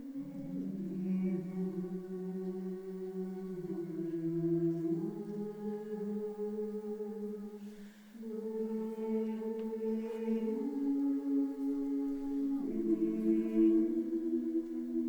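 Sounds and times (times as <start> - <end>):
choir singing long held notes: 0.0 - 15.0.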